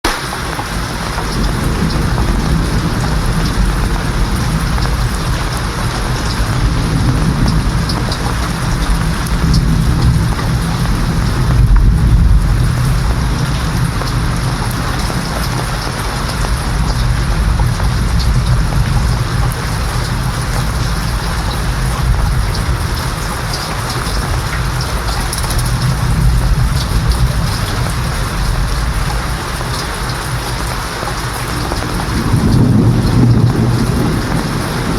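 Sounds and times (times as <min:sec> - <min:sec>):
heavy rain: 0:00.0 - 0:34.9
rolling thunder: 0:00.0 - 0:34.9.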